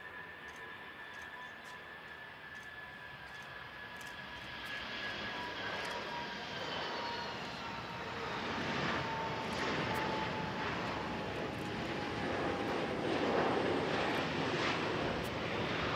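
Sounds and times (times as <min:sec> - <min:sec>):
jet engine whine: 0:00.0 - 0:15.9.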